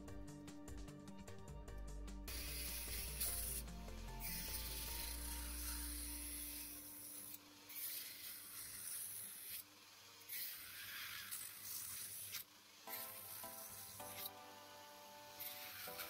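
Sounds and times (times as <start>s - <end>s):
faint background music: 0.0s - 12.2s, 12.8s - 16.0s
rotary tool grinding: 2.3s - 16.0s.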